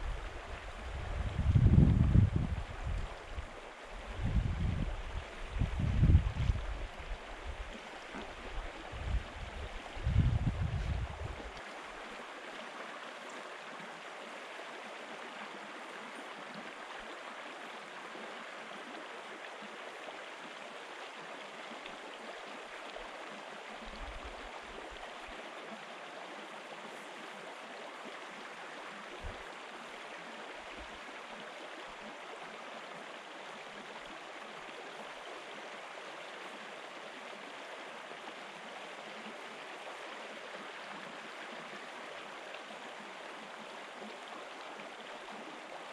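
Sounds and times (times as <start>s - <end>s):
river babbling over stones: 0.0s - 45.9s.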